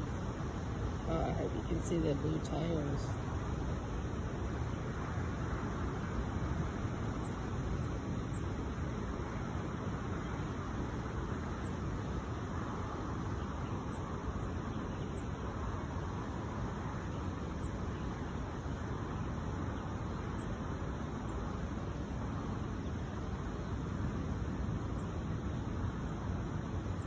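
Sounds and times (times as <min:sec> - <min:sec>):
distant road traffic rumble: 0:00.0 - 0:27.0.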